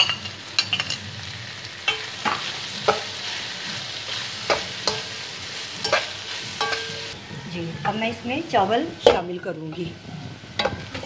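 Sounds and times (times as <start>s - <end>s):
food sizzling in oil: 0.0s - 11.0s
metal utensil scraping a pan: 1.8s - 11.0s.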